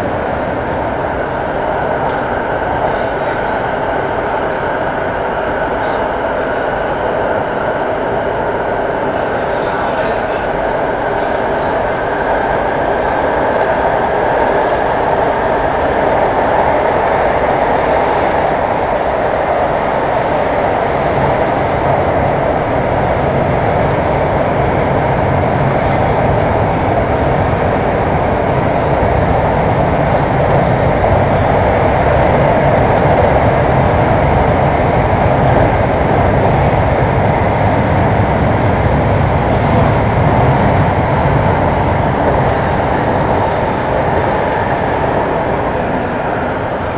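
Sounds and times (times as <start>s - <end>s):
train wheels on rail: 0.0s - 46.9s.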